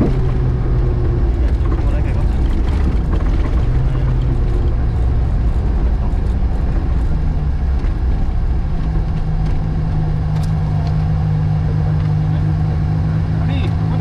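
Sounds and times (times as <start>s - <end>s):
car engine running: 0.0s - 14.0s
gravel and road noise: 0.0s - 14.0s.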